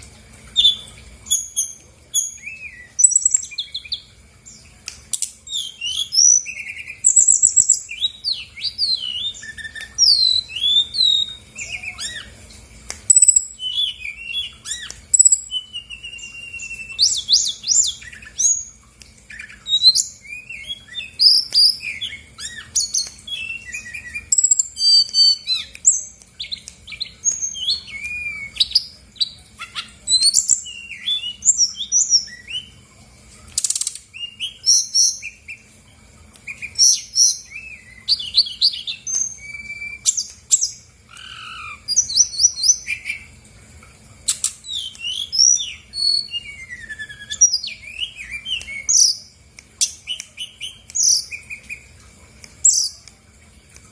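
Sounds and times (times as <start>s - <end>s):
bird singing varied whistles and trills: 0.5s - 12.4s, 13.0s - 32.8s, 33.6s - 35.7s, 36.4s - 43.3s, 44.3s - 52.0s, 52.6s - 53.1s.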